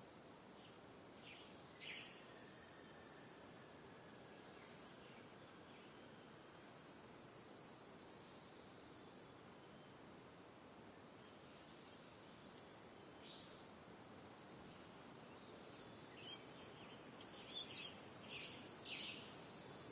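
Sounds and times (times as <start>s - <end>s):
low steady hiss: 0.0s - 19.9s.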